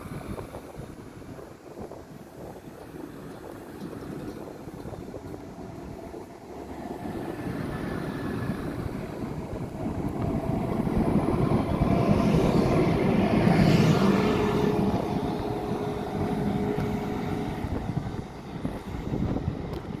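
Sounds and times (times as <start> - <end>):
train rolling past on rails: 0.0 - 20.0.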